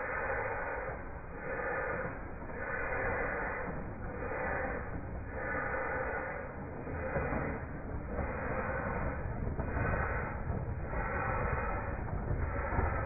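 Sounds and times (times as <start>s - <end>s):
model steam locomotive chuffing: 0.0s - 13.0s
steady low rumble: 0.0s - 13.0s.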